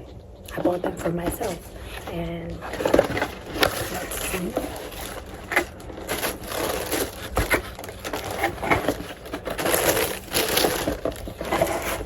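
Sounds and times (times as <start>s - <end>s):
cardboard box rustling and scraping: 1.0s - 12.0s.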